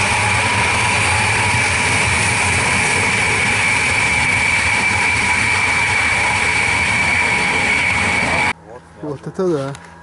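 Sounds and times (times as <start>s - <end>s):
jet engines whining: 0.0s - 8.6s.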